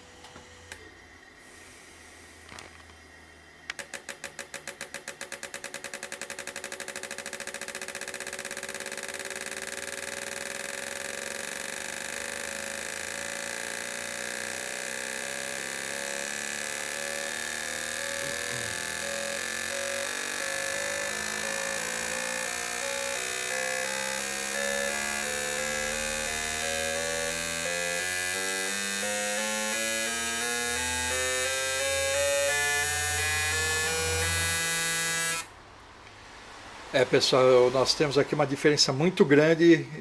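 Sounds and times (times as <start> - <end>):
fuel injectors clicking and buzzing: 2.4 - 35.5.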